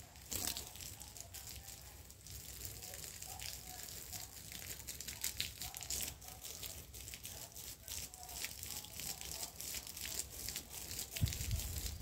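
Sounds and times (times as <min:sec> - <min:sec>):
hose water spraying on leaves: 0:00.0 - 0:12.0.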